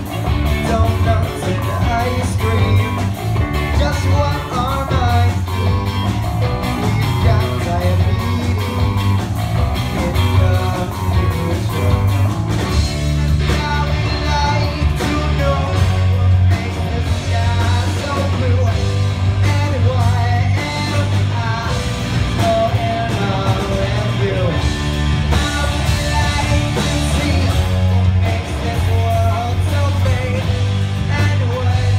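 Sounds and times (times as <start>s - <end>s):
heavy bass line: 0.0s - 31.9s
live rock band playing ska: 0.0s - 31.9s.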